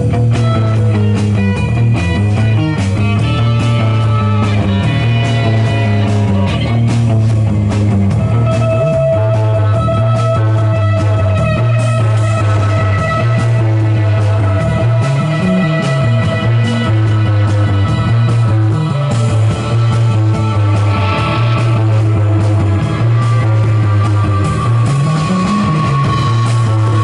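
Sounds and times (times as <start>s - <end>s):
drum kit beat: 0.0s - 27.0s
electric guitars: 0.0s - 27.0s
heavy bass: 0.0s - 27.0s
sustained guitar note: 0.0s - 27.0s.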